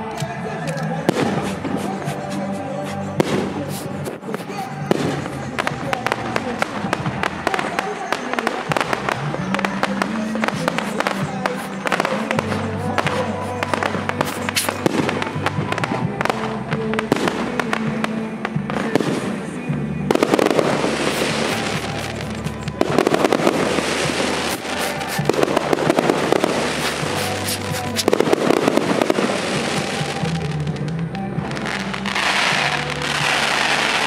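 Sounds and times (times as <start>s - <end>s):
fireworks bursting: 0.0s - 34.0s
music: 0.0s - 34.0s.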